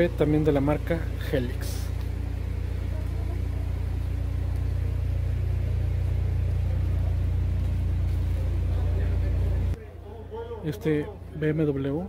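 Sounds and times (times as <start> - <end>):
deep low rumble: 0.0 - 9.8.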